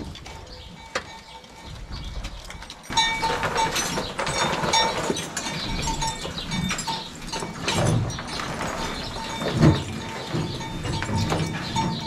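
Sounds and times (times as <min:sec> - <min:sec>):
cows calling: 0:00.0 - 0:12.0
cows eating with knocks and rustles: 0:00.0 - 0:12.0.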